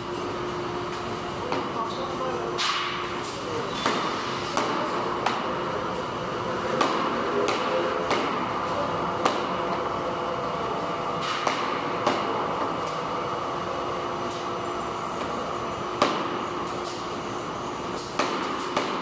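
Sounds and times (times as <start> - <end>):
factory machinery humming: 0.0 - 19.0.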